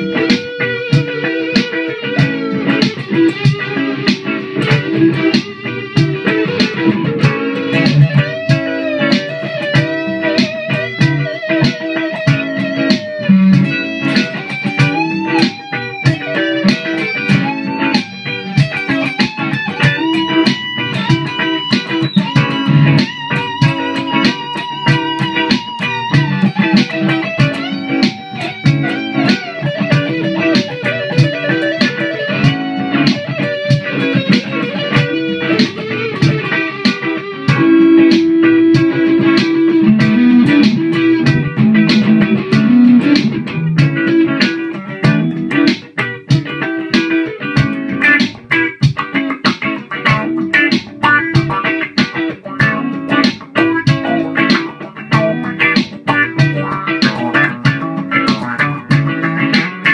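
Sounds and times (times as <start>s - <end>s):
electric guitar lead lines: 0.0s - 59.9s.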